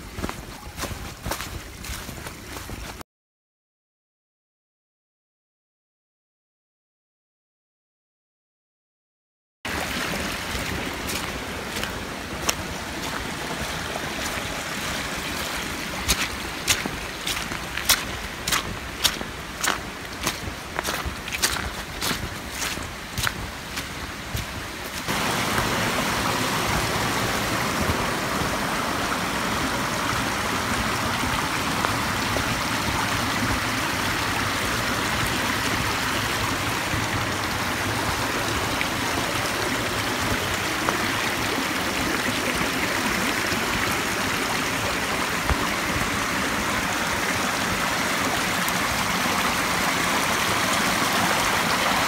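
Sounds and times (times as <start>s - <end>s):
flowing water rushing: 0.0s - 3.0s, 9.7s - 52.0s.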